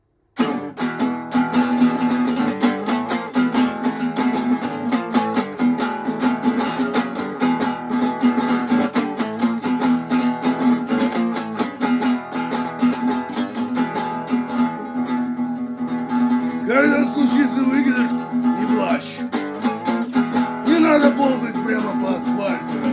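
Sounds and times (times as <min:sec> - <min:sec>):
acoustic guitar strumming: 0:00.4 - 0:22.9.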